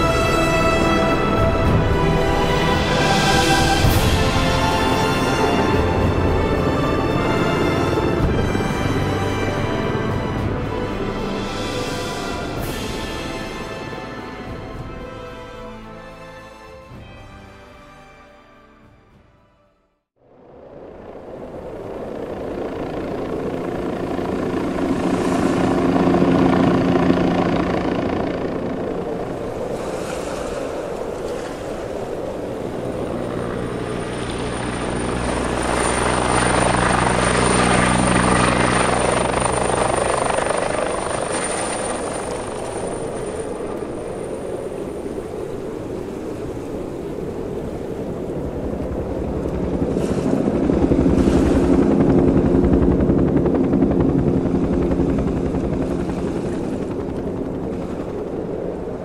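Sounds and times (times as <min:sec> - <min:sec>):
helicopter rotor noise: 0:00.0 - 0:15.0, 0:20.4 - 0:59.0.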